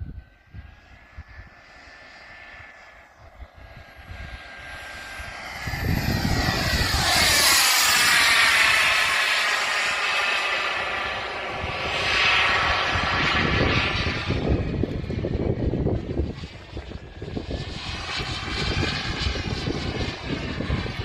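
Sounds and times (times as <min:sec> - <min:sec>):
model jet turbine whine: 0:00.0 - 0:21.0.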